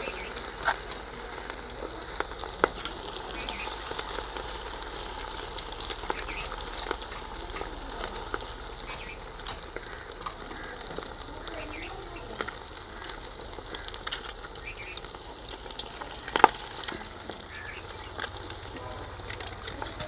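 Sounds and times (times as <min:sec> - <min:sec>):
fish sizzling in hot oil: 0:00.0 - 0:20.0.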